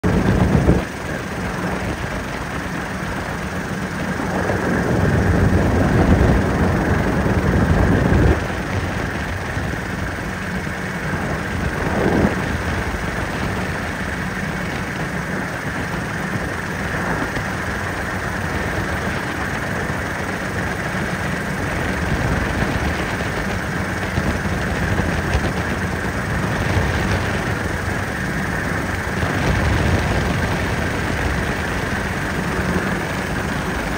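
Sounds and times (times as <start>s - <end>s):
helicopter engine and rotor: 0.0s - 33.9s.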